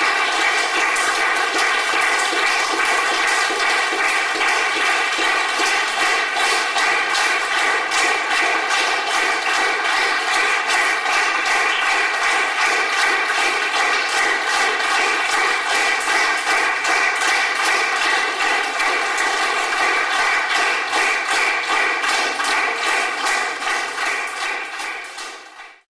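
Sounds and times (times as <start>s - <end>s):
audience applauding: 0.0s - 25.9s.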